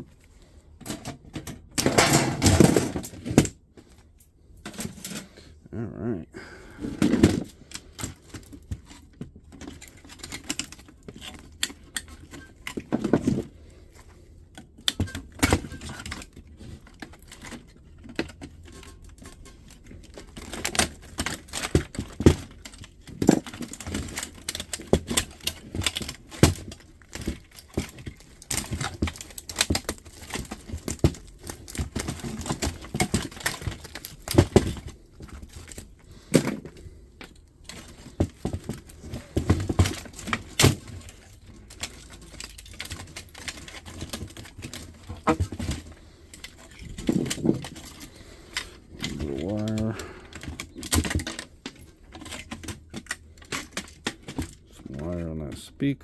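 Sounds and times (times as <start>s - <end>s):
plastic and metal parts rattling: 0.0s - 55.7s.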